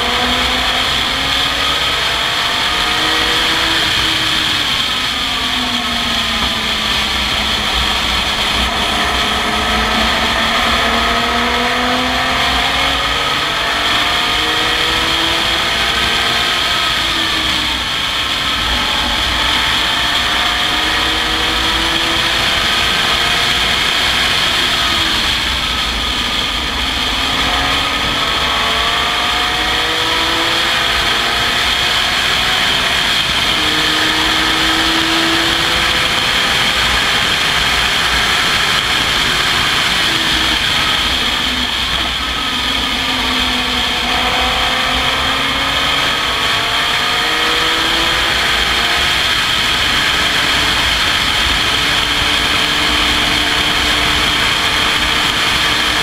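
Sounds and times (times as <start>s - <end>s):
race car engine shifting gears: 0.0s - 56.0s.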